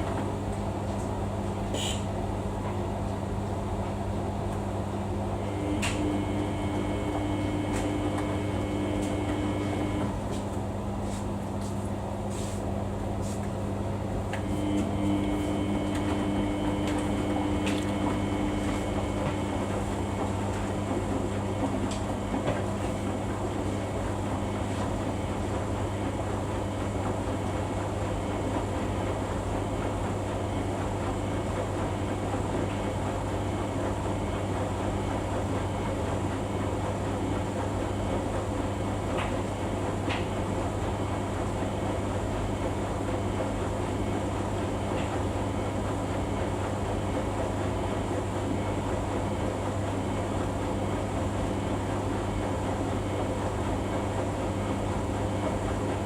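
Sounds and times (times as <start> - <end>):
washing machine low hum: 0.0 - 56.0
washing machine motor whine: 0.0 - 56.0.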